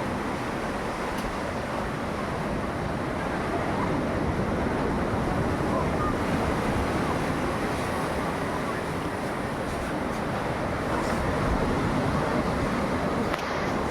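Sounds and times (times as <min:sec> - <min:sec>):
ocean surf: 0:00.0 - 0:13.9.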